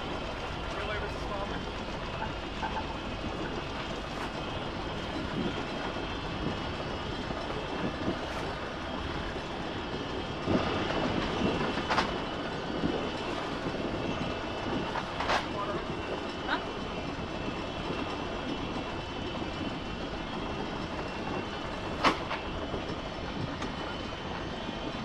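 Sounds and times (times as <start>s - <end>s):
boat diesel engine running: 0.0s - 25.0s.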